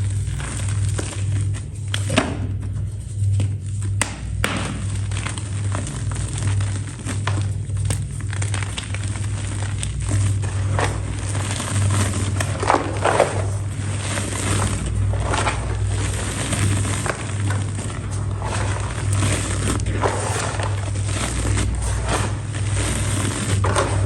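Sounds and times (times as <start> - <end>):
brittle material crackling and crunching: 0.0 - 24.0.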